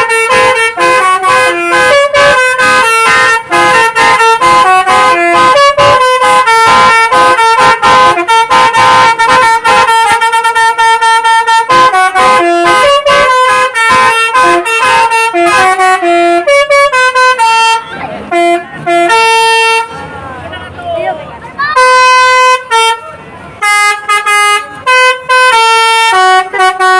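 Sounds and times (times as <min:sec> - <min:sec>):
multi-tone bus horn melody: 0:00.0 - 0:26.9.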